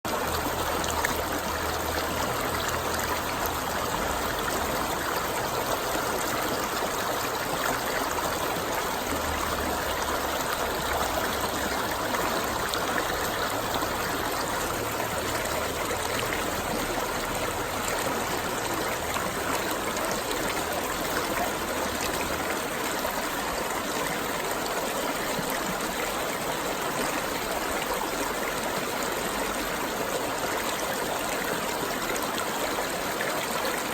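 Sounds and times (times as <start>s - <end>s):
running water: 0.1s - 33.9s.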